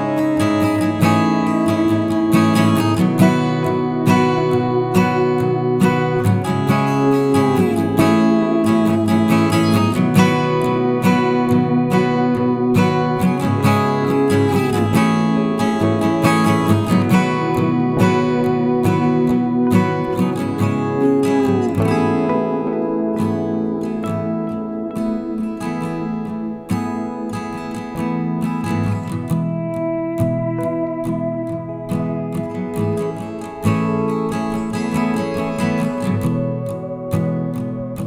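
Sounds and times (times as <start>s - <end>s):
strummed acoustic guitar music: 0.0s - 38.0s.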